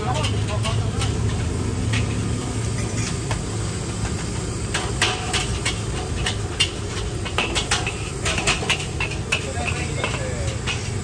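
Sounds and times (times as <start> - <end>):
low rumble of engines: 0.0 - 11.0.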